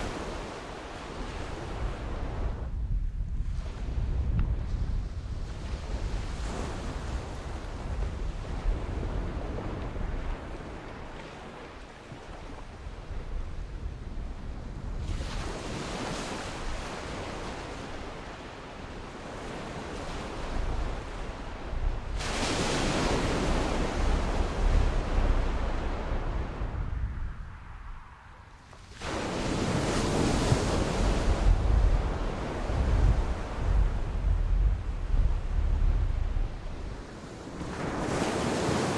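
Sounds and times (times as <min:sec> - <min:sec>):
sea waves washing in: 0:00.0 - 0:38.9
wind rumbling on microphone: 0:00.0 - 0:38.9.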